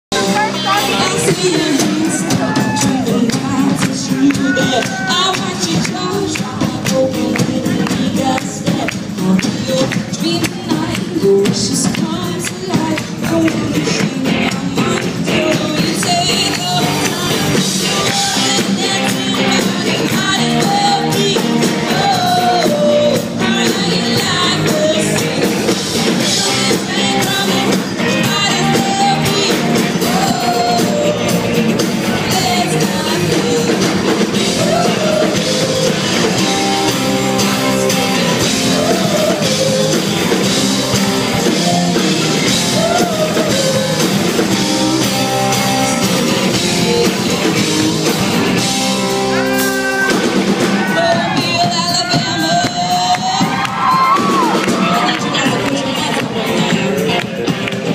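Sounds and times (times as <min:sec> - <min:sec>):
electric bass: 0:00.0 - 0:57.9
live rock band: 0:00.1 - 0:57.9
woman singing lead: 0:00.1 - 0:57.9.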